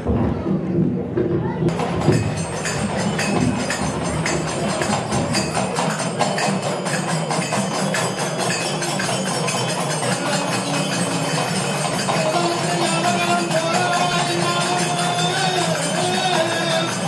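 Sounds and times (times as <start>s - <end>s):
hand drums beaten in rhythm: 0.0s - 17.0s.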